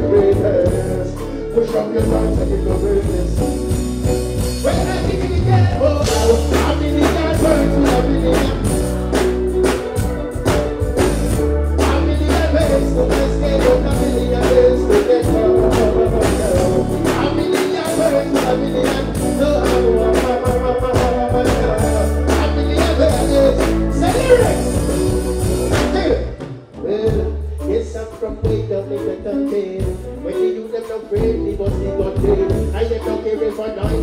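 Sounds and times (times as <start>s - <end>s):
man singing: 0.0s - 3.8s, 4.6s - 9.6s, 11.6s - 34.0s
deep bass line: 0.0s - 34.0s
reggae drum beat: 0.0s - 34.0s.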